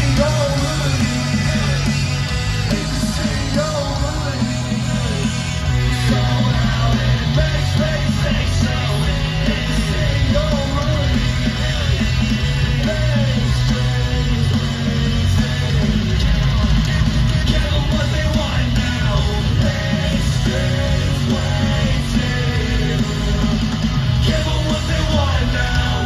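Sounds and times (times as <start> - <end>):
bass guitar: 0.0 - 26.0
drums: 0.0 - 26.0
electric guitars: 0.0 - 26.0
person singing lead vocal: 0.0 - 26.0.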